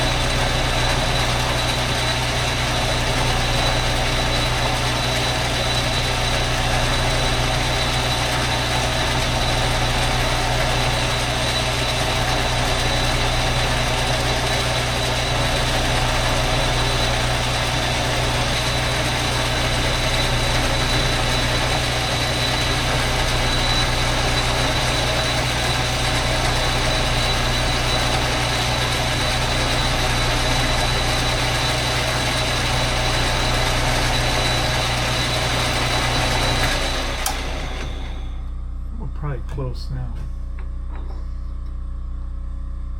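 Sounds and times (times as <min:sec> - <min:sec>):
metal lathe running: 0:00.0 - 0:38.6.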